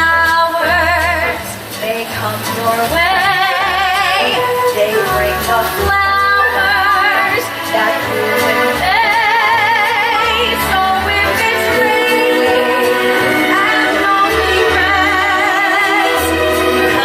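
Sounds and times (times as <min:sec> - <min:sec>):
backing track: 0:00.0 - 0:17.0
person singing with vibrato: 0:00.0 - 0:17.0.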